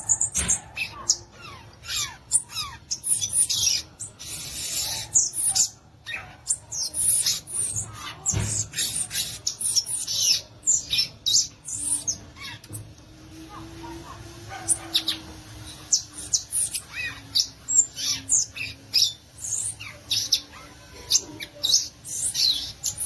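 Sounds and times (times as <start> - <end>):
bird singing high chips and twitters: 0.0 - 12.9, 14.7 - 23.0.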